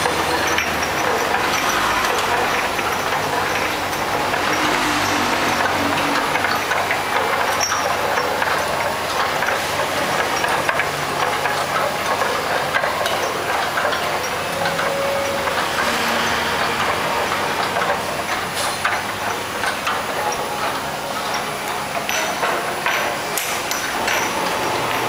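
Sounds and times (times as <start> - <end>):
glass bottles clinking: 0.0 - 25.0.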